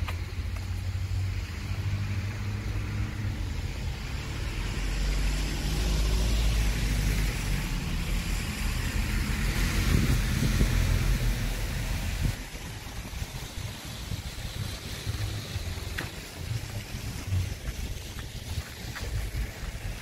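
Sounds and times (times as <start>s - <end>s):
car engine rumble: 0.0s - 20.0s
tyres hissing on wet road: 0.0s - 20.0s.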